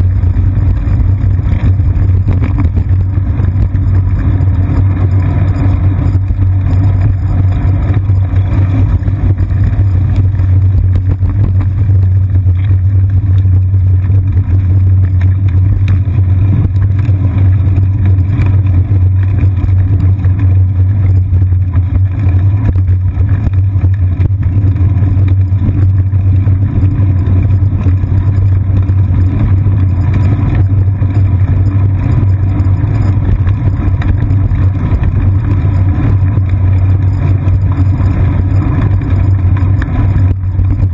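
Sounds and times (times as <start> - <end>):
bicycle rumbling on paved path: 0.0 - 40.9.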